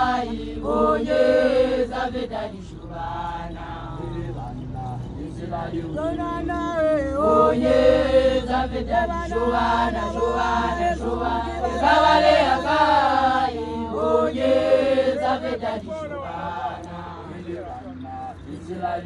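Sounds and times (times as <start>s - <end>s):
women singing a chant together: 0.0s - 19.0s.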